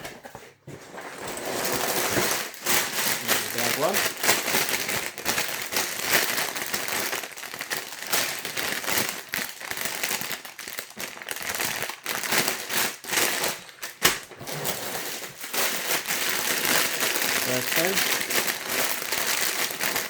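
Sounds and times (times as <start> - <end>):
plastic bags crinkling: 1.2 - 20.0.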